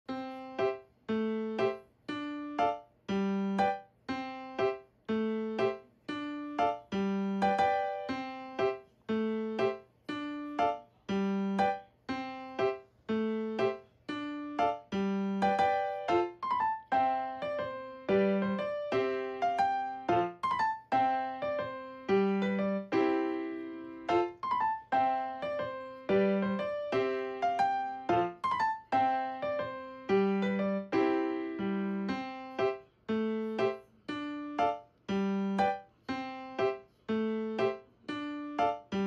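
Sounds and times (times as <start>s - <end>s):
light piano tune: 0.1s - 39.0s.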